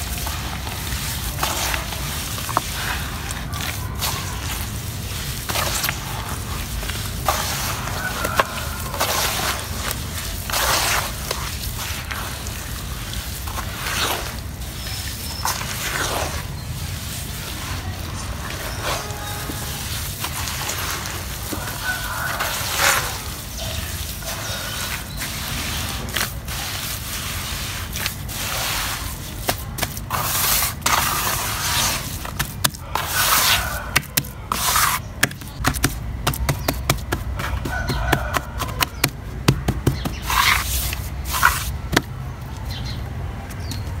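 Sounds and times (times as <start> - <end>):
wet mud squelching: 0.0 - 42.6.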